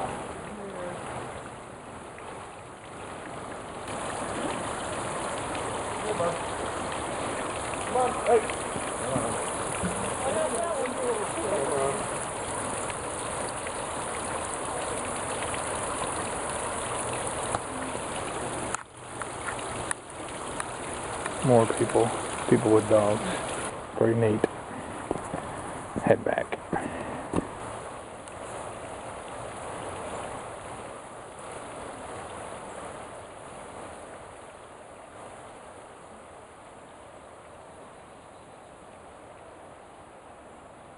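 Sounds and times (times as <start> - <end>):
water rushing at a waterfall: 0.0 - 40.9.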